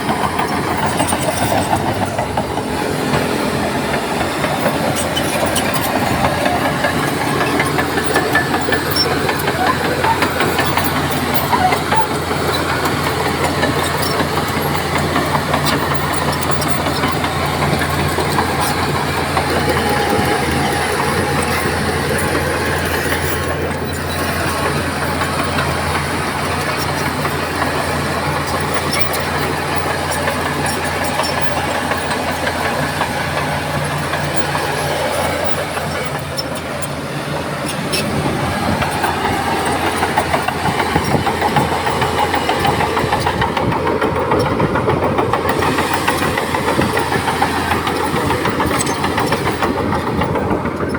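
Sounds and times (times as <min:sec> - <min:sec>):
bulldozer diesel engine running: 0:00.0 - 0:50.9
metal track clanks: 0:00.0 - 0:50.9.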